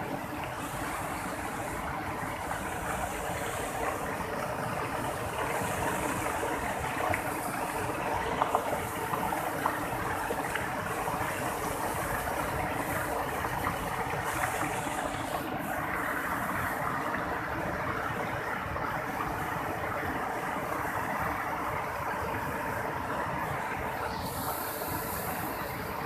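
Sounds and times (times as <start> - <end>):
waterfall roaring over boulders: 0.0 - 26.0.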